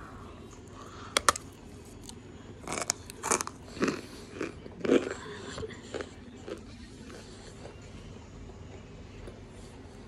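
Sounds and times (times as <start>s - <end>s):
crunchy chewing: 0.8s - 9.4s.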